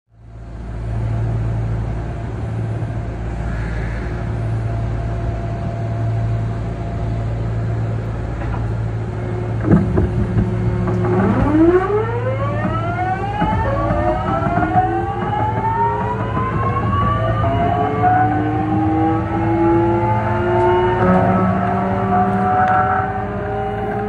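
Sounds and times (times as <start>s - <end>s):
train low hum: 0.1s - 24.0s
inverter whine rising in pitch: 0.9s - 24.0s.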